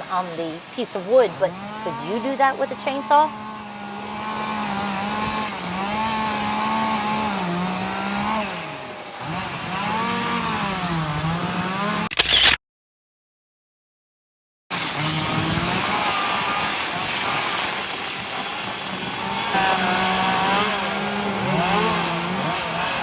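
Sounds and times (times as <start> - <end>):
chainsaw carving wood: 0.6 - 12.6, 14.7 - 23.0.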